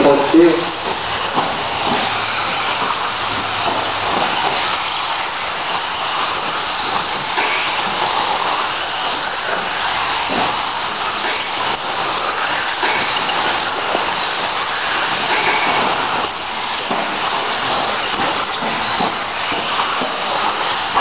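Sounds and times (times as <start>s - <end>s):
electric model cars racing: 0.0s - 21.0s.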